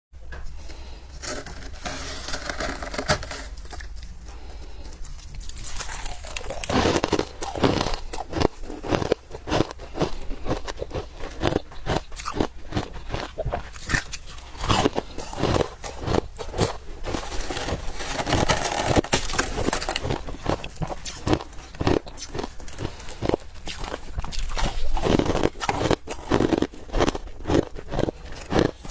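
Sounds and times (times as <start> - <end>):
chewing crunchy ice: 0.8 - 28.9.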